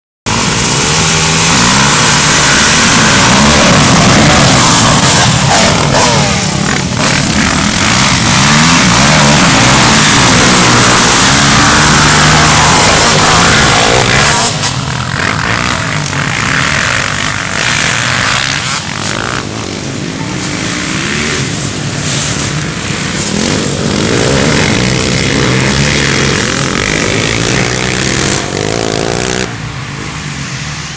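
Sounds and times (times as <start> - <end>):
dirt bike engines revving: 0.3 - 30.9.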